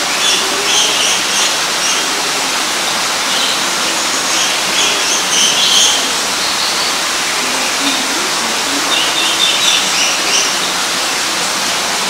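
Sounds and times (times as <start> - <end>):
small birds chirping: 0.0 - 11.9
running water rushing: 0.0 - 12.0.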